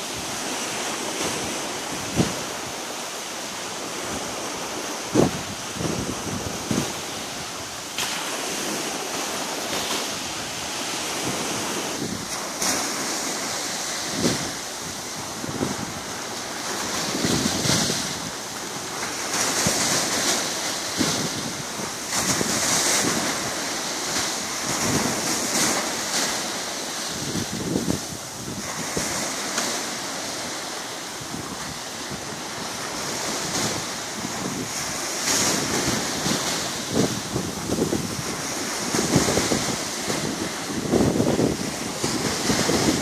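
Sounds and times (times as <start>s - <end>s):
wind buffeting microphone: 0.0s - 2.9s, 3.5s - 43.0s
small sea waves washing: 0.0s - 43.0s.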